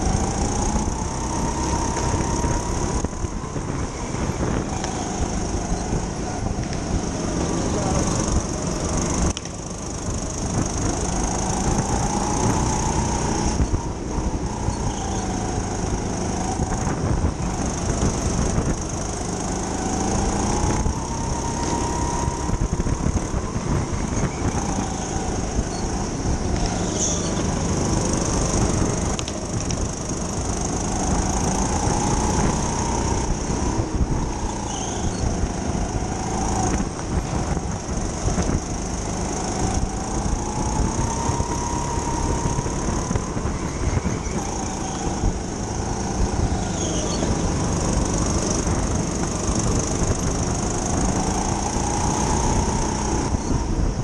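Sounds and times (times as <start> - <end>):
kart engine revving: 0.0 - 54.0
loud rumble and hiss: 0.0 - 54.0.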